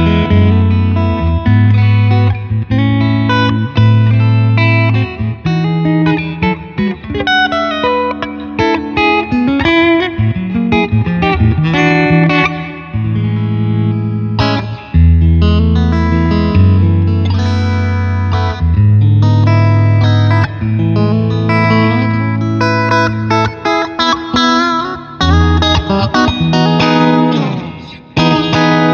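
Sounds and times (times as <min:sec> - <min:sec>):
electric guitar through amplifier: 0:00.0 - 0:28.9.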